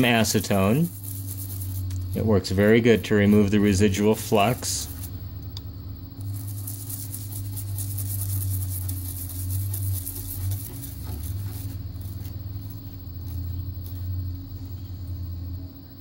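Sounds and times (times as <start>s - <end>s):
scratchy scrubbing of circuit board: 0.0s - 5.1s, 6.2s - 14.7s
steady low hum: 0.0s - 16.0s.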